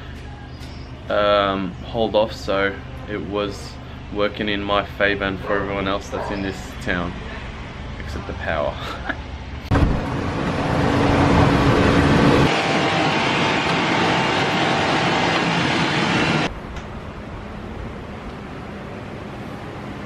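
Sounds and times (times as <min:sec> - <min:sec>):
moving vehicle noise: 0:02.8 - 0:20.0.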